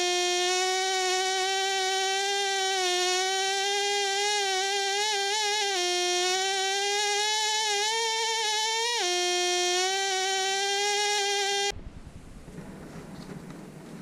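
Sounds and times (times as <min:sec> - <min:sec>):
air scribe buzzing whine: 0:00.0 - 0:11.8.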